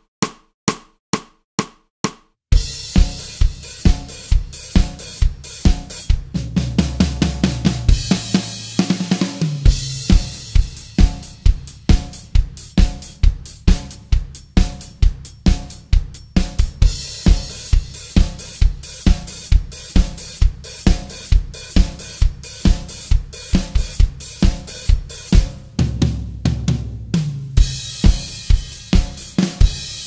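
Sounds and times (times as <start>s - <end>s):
drum kit beat: 0.0s - 30.0s.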